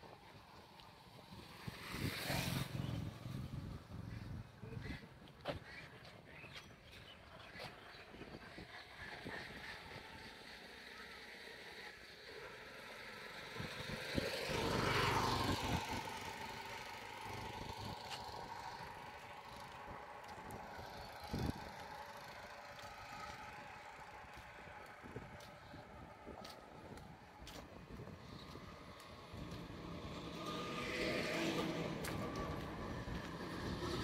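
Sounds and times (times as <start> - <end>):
vehicle passing by: 0.7 - 5.0, 8.9 - 34.0.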